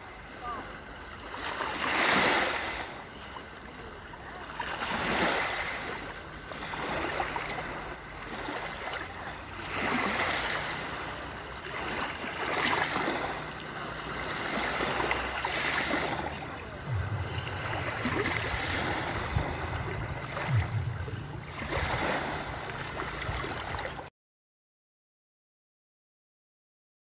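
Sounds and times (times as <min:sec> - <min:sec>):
small waves washing on sand: 0:00.0 - 0:24.1.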